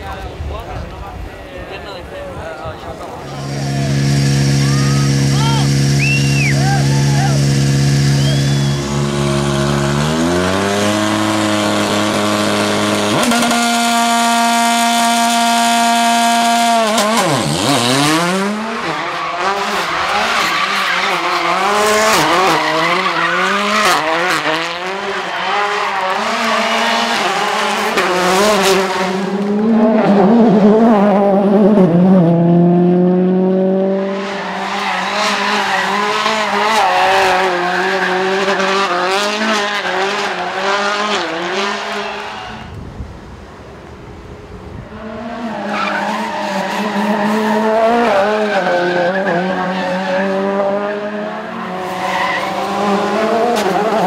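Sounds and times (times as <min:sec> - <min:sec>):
car engine revving hard: 0:03.1 - 0:42.6, 0:44.9 - 0:54.0.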